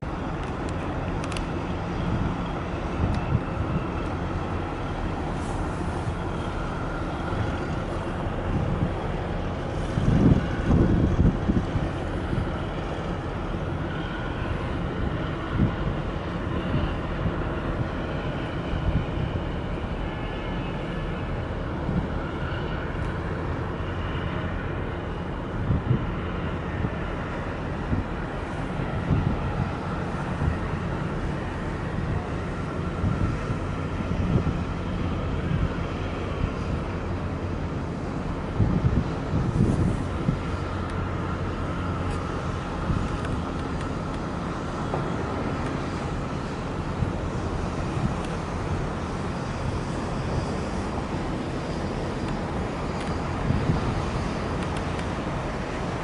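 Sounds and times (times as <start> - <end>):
ship engine rumble: 0.0 - 56.0
wind gusts on microphone: 0.0 - 56.0.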